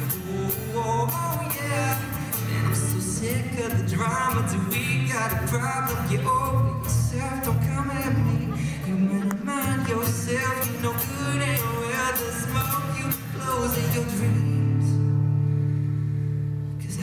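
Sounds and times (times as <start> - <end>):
man singing: 0.0 - 15.2, 16.7 - 17.0
strummed acoustic guitar: 0.0 - 17.0.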